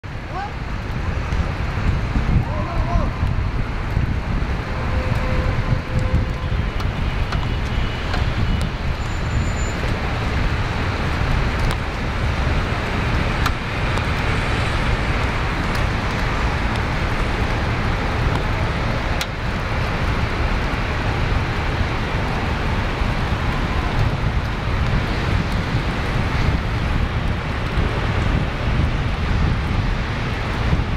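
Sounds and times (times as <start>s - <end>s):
street traffic rumble: 0.0s - 30.9s
wind buffeting microphone: 0.0s - 30.9s.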